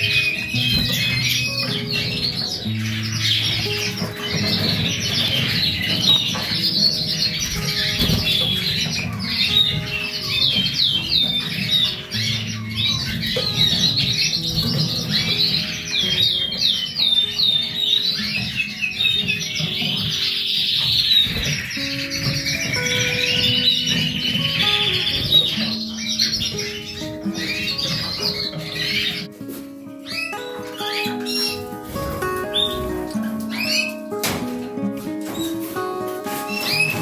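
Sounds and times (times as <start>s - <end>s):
background music with low notes: 0.0s - 37.0s
canaries chirping and singing: 0.0s - 37.0s.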